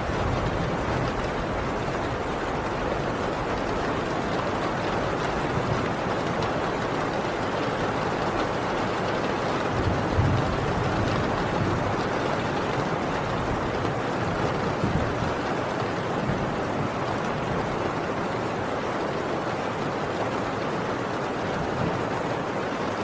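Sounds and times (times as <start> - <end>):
heavy rain on a tin roof: 0.0 - 23.0.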